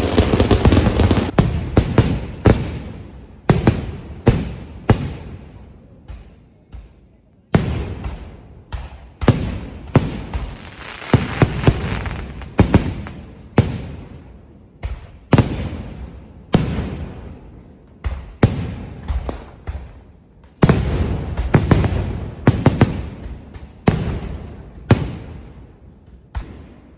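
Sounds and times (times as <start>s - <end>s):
fireworks bangs with rumbling echo: 0.0s - 26.9s.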